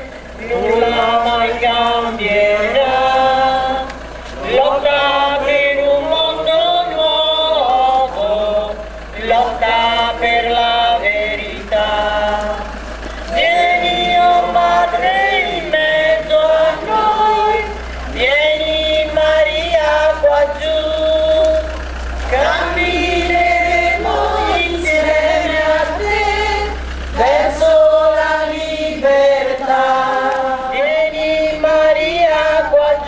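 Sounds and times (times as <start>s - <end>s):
low steady hum: 0.0s - 33.0s
people singing a hymn: 0.0s - 33.0s.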